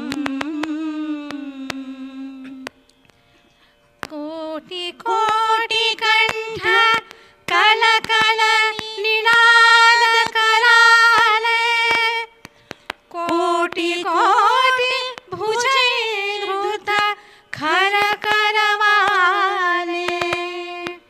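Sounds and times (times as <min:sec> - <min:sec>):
woman singing slow song: 0:00.0 - 0:02.9, 0:04.0 - 0:12.4, 0:13.1 - 0:21.0.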